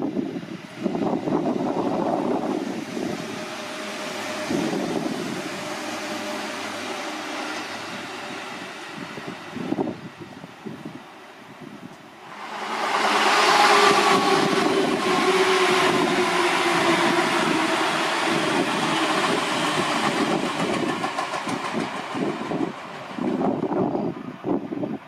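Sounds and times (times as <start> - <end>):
electric train passing: 0.0 - 25.0.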